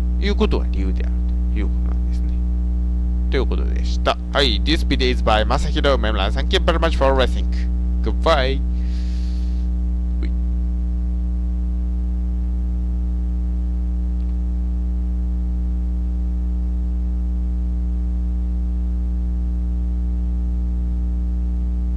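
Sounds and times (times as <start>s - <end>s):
electrical mains hum: 0.0s - 21.9s.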